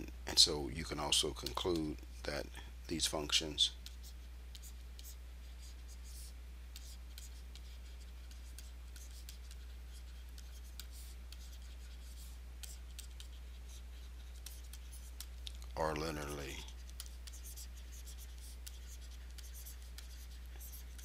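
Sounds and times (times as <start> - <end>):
low electrical hum: 0.0 - 21.0
stylus scratching on tablet: 0.8 - 2.4, 3.2 - 21.0.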